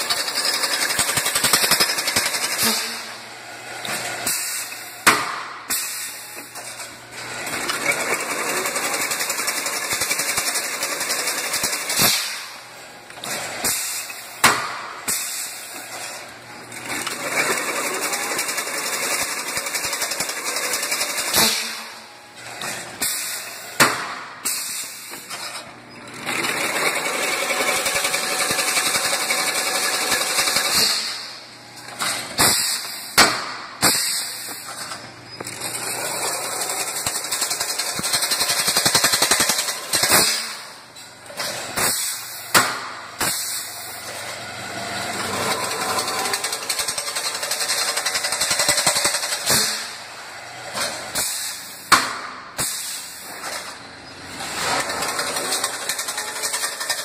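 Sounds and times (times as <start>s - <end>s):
machine clatter and hiss: 0.0s - 57.0s.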